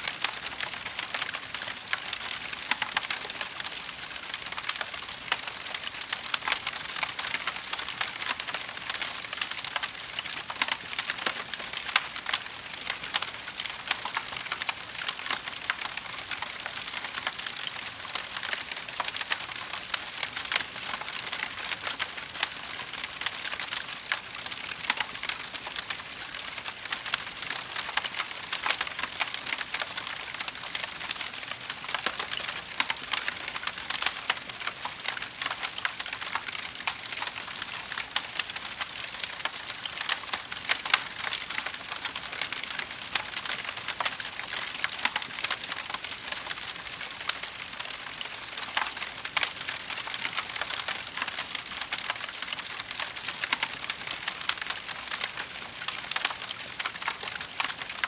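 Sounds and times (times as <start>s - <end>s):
fire crackling and popping: 0.2s - 58.0s.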